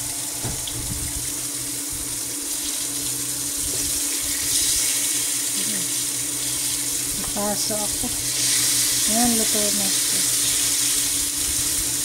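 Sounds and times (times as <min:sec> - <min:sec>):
fish sizzling in hot oil: 0:00.1 - 0:12.0.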